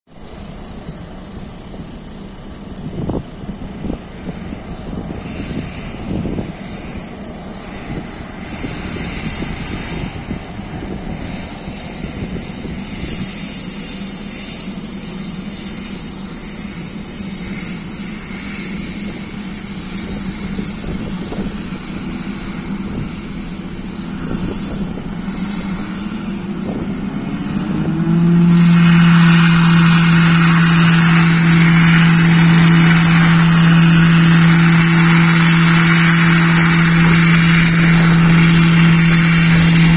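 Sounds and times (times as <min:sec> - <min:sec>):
turboprop engine droning: 0:00.0 - 0:39.9.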